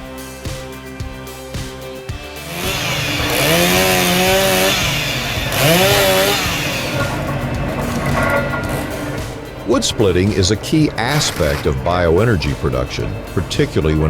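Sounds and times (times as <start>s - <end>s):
background music with a beat: 0.0s - 14.0s
chainsaw revving: 2.4s - 14.0s.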